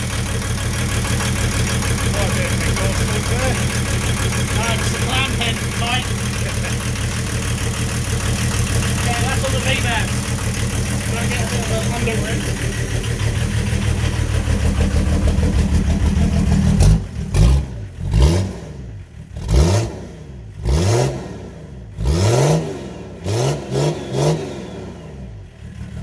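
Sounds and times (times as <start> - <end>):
diesel engine idling and revving: 0.0 - 26.0.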